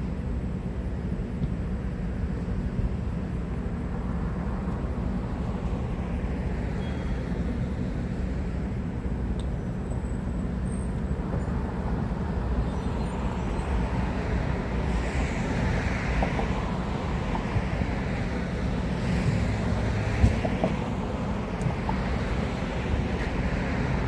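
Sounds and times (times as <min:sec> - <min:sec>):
low rumble of motor vehicles: 0:00.0 - 0:24.0.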